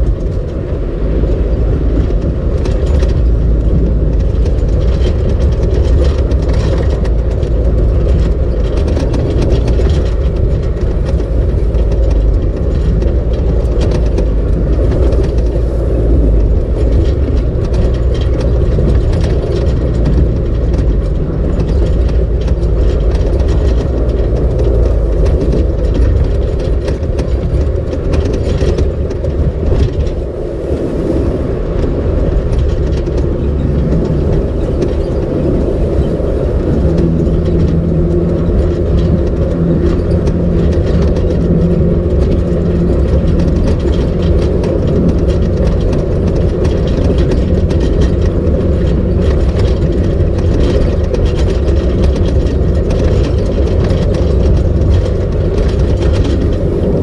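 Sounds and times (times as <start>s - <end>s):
engine and tyres rumbling: 0.0s - 57.0s
gravel and body rattles: 0.0s - 57.0s.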